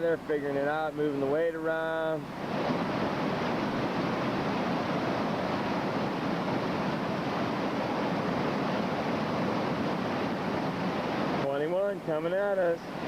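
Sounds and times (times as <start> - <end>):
whitewater rapids rushing: 2.2 - 13.0.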